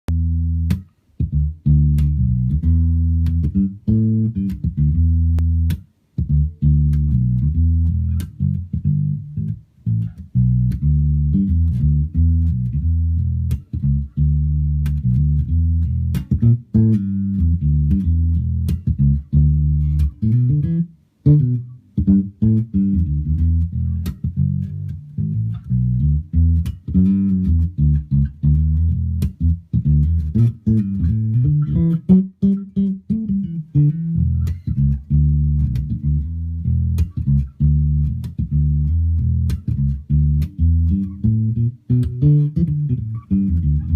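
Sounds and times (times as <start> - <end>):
electric bass plucked notes: 0.0 - 43.9.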